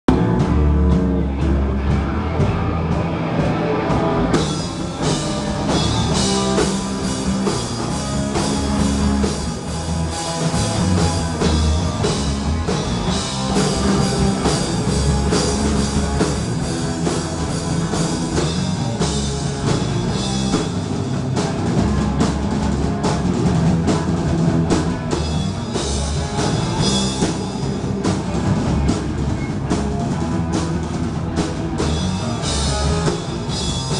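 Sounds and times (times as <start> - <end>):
live rock band playing: 0.1 - 33.9.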